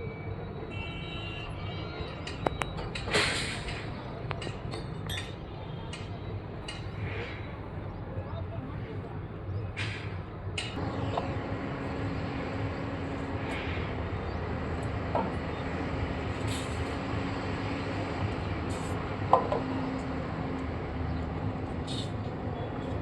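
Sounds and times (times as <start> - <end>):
construction machinery humming: 0.0 - 23.0.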